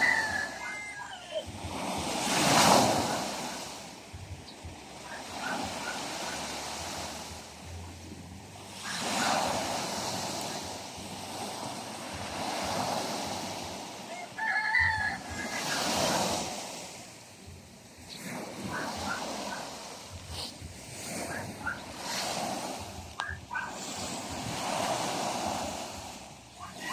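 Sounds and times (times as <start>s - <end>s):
sea waves washing in: 0.0s - 26.9s.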